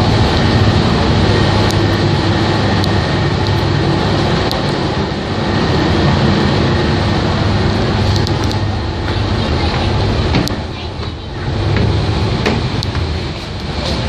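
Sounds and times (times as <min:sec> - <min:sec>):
ferry engines droning: 0:00.0 - 0:14.0
low hum: 0:00.0 - 0:14.0.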